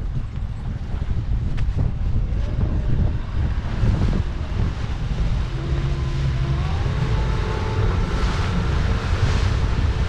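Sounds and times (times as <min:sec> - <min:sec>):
boat motor running: 0:00.0 - 0:10.0
wind buffeting microphone: 0:00.0 - 0:10.0.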